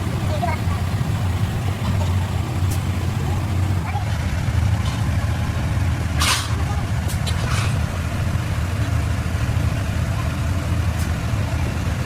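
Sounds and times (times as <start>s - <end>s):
low engine-like drone: 0.0s - 12.0s.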